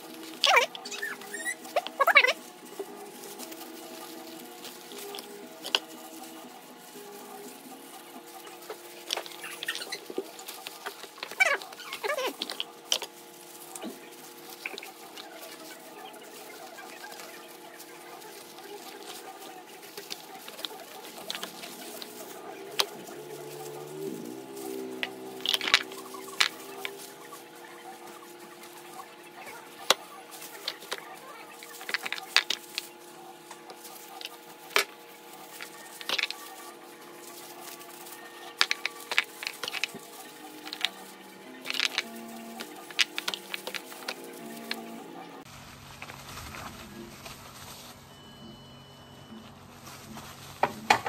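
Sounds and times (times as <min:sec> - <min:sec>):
gloved hands pulling fruit: 0:00.0 - 0:48.0.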